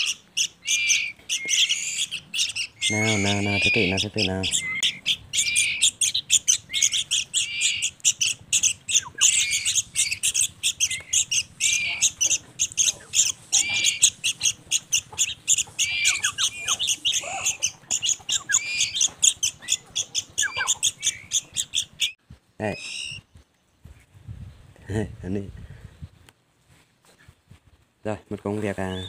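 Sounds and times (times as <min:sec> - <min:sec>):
fledgling birds chirping and squawking: 0:00.0 - 0:24.7, 0:28.5 - 0:29.0.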